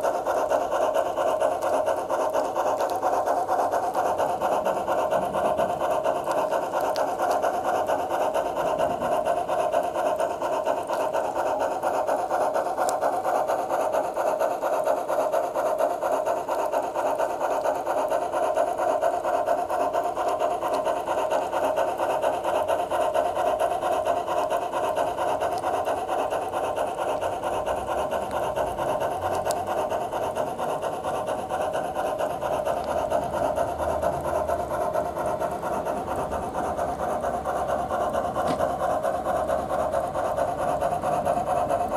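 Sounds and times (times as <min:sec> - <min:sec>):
steam engine chuffing from speaker: 0:00.0 - 0:41.9.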